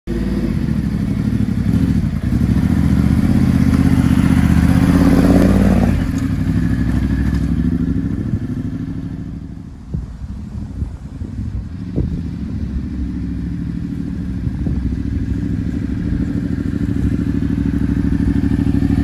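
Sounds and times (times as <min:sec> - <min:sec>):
motorcycle engine passing: 0:00.1 - 0:09.6, 0:11.3 - 0:19.0.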